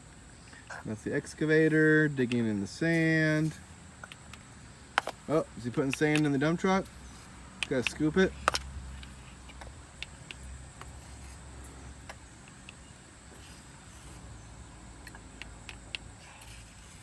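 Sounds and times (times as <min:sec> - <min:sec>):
toy parts clicking in sand: 0:00.5 - 0:17.0.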